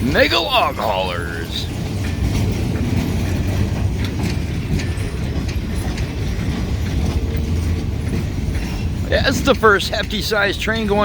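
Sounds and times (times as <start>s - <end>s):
freight train wheels rumbling on rail: 0.0s - 11.0s
wheels clacking over rail joints: 0.0s - 11.0s.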